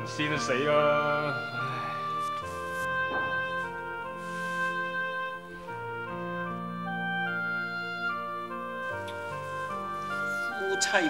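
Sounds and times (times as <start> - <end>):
sustained instrumental score: 0.0 - 11.0.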